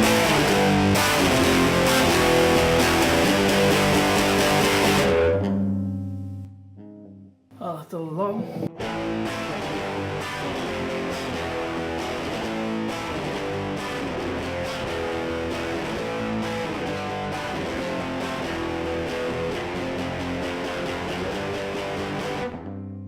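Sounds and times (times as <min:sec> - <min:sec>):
distorted electric guitar: 0:00.0 - 0:06.4, 0:08.4 - 0:23.0.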